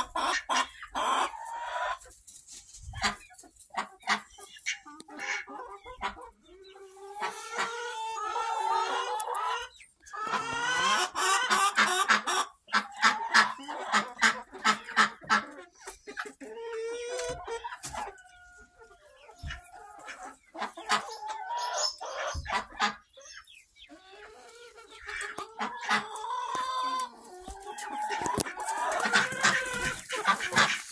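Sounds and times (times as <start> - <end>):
chickens clucking and calling: 0.0 - 30.9.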